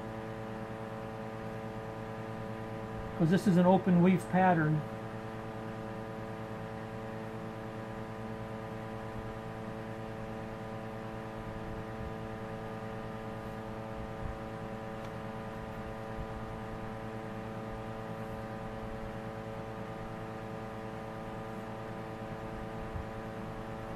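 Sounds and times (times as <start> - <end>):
electrical hum: 0.0 - 23.9.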